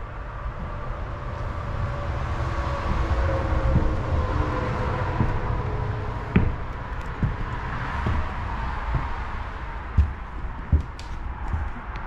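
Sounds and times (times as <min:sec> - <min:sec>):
vehicle passing rumble: 0:00.0 - 0:12.0
footsteps on wooden floorboards: 0:00.4 - 0:12.0.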